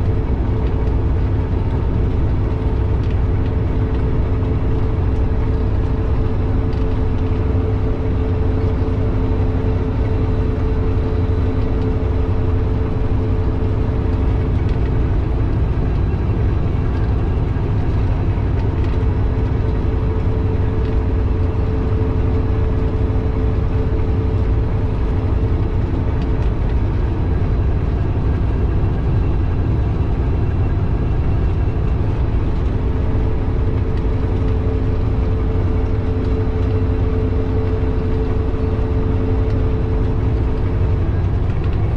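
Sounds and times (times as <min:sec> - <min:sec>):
constant hum: 0:00.0 - 0:41.9
truck engine and road drone: 0:00.0 - 0:41.9.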